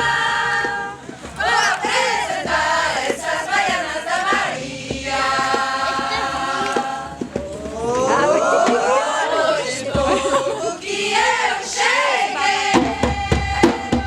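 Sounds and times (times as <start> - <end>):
group singing a chant: 0.0 - 14.0
samba drums: 0.0 - 14.0.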